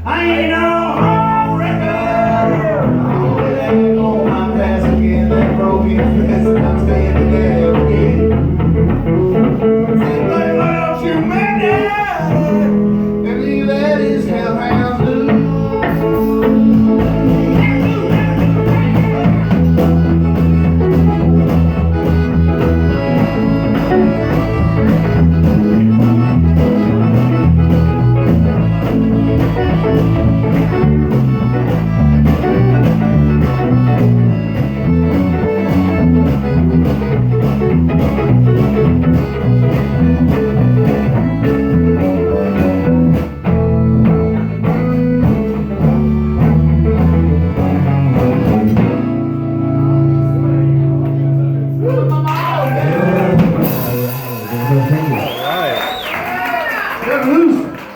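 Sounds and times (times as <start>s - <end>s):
bass line: 0.0s - 57.5s
live guitar music: 0.0s - 57.9s.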